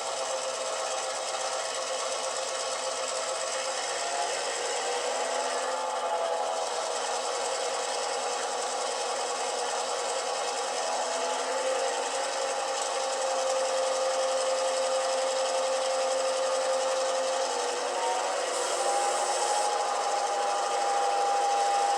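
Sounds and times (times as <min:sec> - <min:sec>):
diesel engine sound from small speakers: 0:00.0 - 0:14.0, 0:14.9 - 0:21.9.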